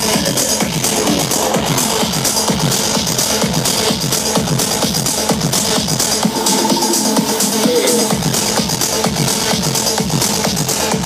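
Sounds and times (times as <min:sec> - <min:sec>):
loud techno over sound system: 0:00.0 - 0:11.0.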